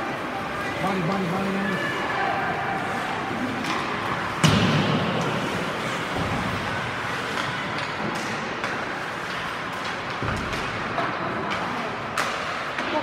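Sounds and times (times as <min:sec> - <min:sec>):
ice rink noise: 0:00.0 - 0:13.0.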